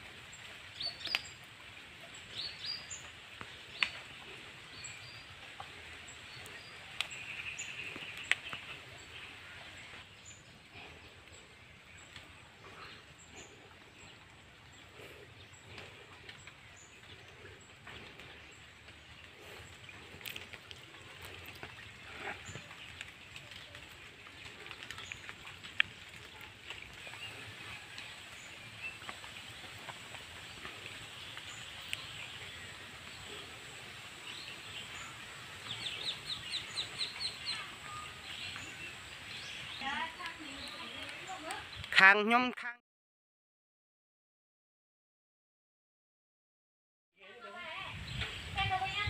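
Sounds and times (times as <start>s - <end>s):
bird calls: 0.0s - 41.9s.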